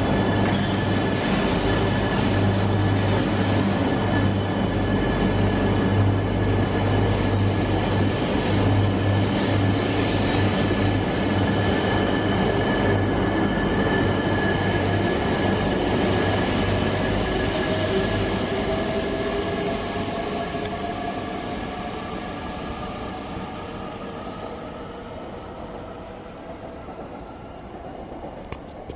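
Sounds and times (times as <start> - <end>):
bullet train accelerating: 0.0 - 28.9.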